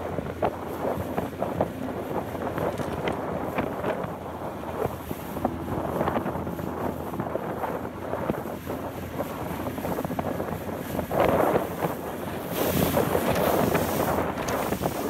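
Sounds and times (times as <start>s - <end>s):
choppy sea water: 0.0s - 15.0s
wind buffeting microphone: 0.0s - 15.0s.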